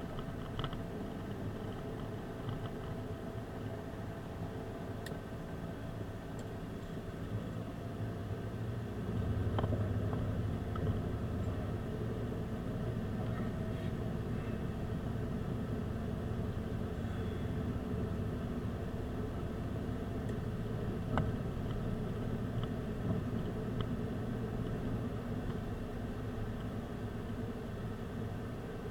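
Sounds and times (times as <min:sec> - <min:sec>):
car engine humming: 0:00.0 - 0:28.9.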